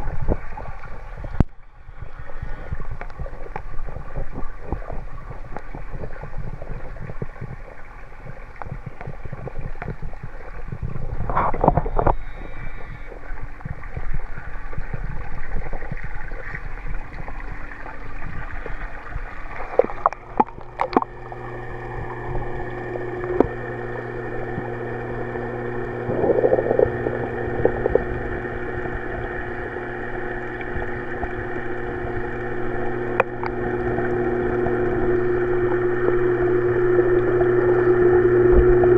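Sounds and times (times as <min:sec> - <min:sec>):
muffled underwater hum: 0:00.0 - 0:38.9
water sloshing: 0:00.0 - 0:38.9.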